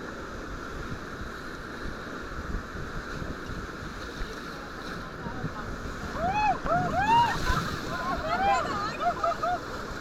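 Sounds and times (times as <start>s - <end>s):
river water rushing: 0.0s - 10.0s
wind buffeting microphone: 0.6s - 10.0s.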